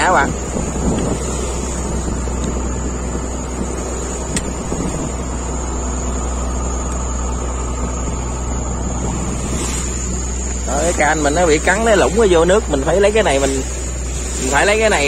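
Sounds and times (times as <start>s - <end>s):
boat engine humming: 0.0s - 15.0s
water rushing past hull: 0.0s - 15.0s.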